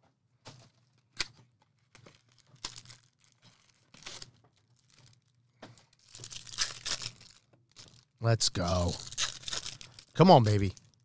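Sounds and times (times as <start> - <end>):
packaging tearing and crinkling: 1.2 - 5.3, 5.9 - 11.0.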